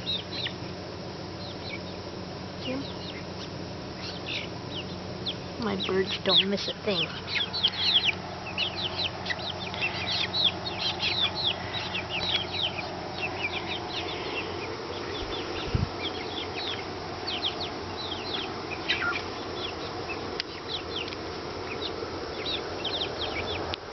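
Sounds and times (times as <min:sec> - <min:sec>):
chickens peeping: 0:00.0 - 0:23.9.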